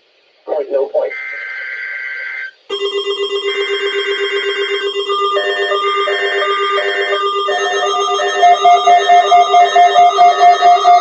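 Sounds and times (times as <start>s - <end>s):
pulsing electronic alert tone: 1.1s - 11.0s.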